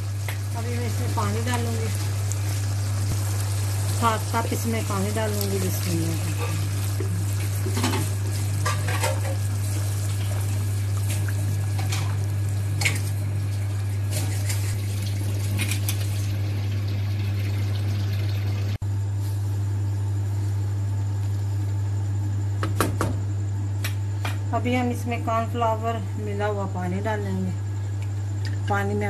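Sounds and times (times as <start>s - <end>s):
steady low hum: 0.0s - 16.8s, 18.8s - 29.0s.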